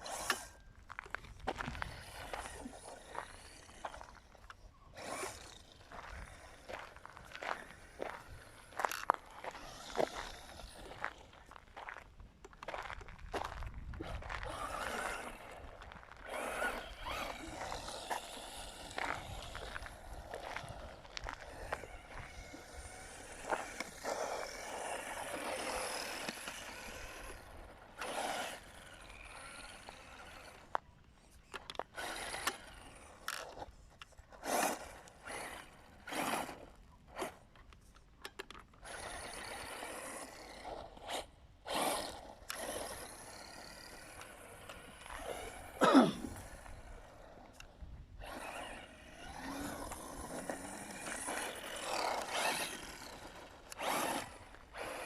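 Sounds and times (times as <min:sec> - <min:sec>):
rc car motor whine: 0:00.0 - 0:11.3, 0:13.4 - 0:55.0
tyres scrabbling over gravel: 0:00.0 - 0:55.0.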